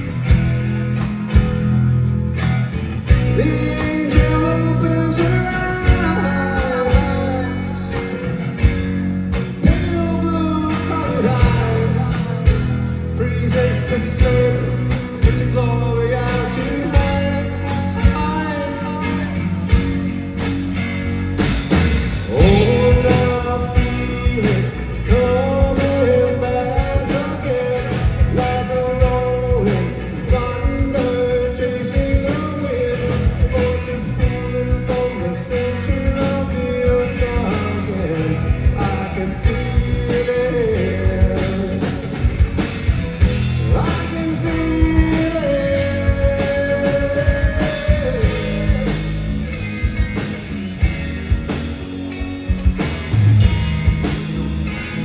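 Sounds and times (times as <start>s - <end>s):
bass: 0.0s - 55.0s
drums: 0.0s - 55.0s
electric guitar: 0.0s - 55.0s.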